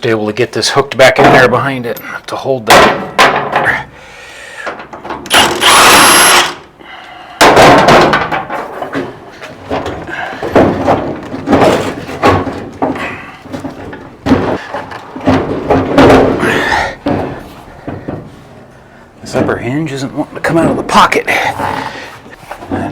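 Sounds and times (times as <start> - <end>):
metal clanks and knocks: 1.0 - 4.0, 4.6 - 5.6, 7.4 - 22.9.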